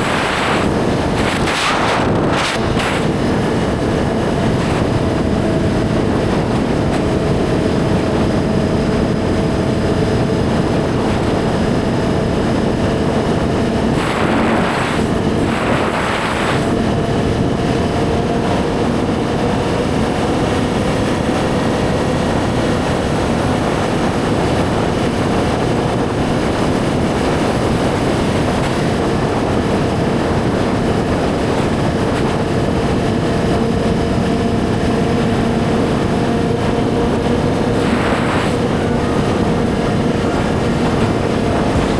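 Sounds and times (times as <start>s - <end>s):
motorcycle engine cruising: 0.0s - 41.9s
wind noise: 0.0s - 41.9s.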